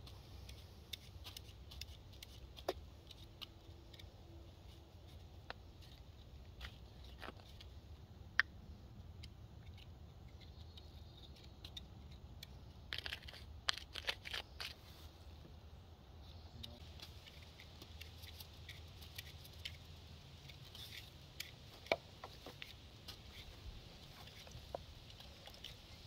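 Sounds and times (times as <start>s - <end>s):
clicks scrapes and crinkles: 0.0s - 7.8s, 9.2s - 15.2s, 16.7s - 26.0s.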